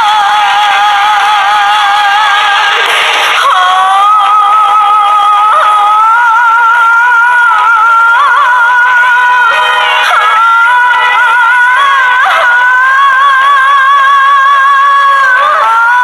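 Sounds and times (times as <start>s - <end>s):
musical accompaniment: 0.0s - 16.0s
woman singing a slow ballad: 0.0s - 16.0s.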